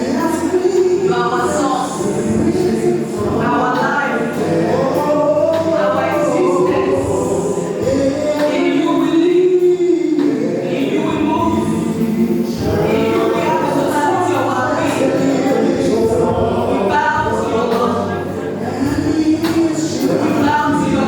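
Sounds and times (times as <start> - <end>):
choir singing gospel: 0.0 - 21.0.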